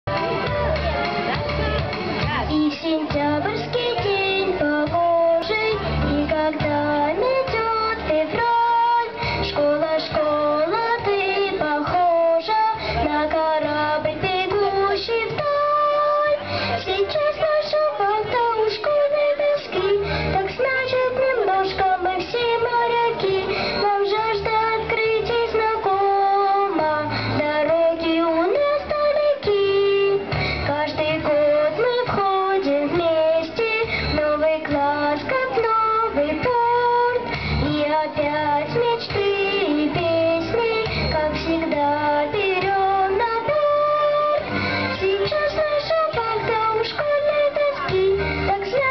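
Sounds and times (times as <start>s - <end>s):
backing track with beat and bass: 0.1s - 48.9s
girl singing: 2.2s - 48.9s.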